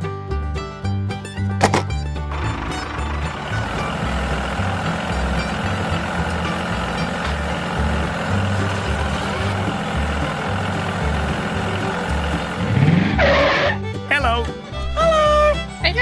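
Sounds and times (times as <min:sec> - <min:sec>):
bulldozer engine running: 0:00.0 - 0:16.0
music with pulsing bass: 0:00.0 - 0:16.0.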